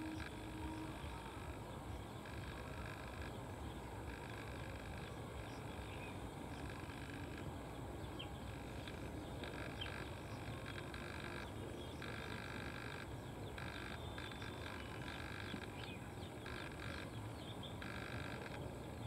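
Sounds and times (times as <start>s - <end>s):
chorus of calling animals: 0.0s - 19.0s
low steady rumble: 0.0s - 19.0s.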